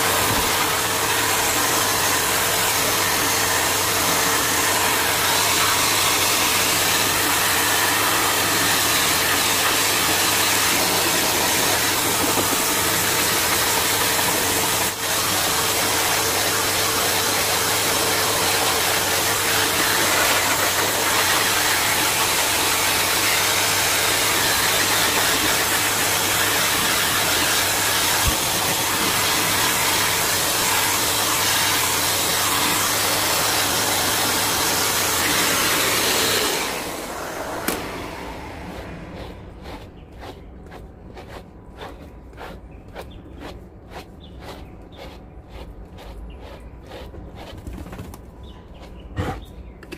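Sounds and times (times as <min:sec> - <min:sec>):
blow dryer running: 0:00.0 - 0:40.3.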